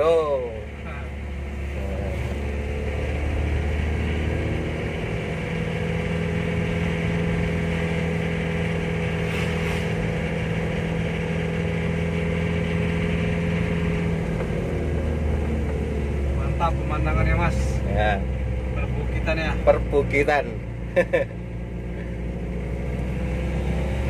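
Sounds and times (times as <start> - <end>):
diesel engine drone in cab: 0.0 - 24.0.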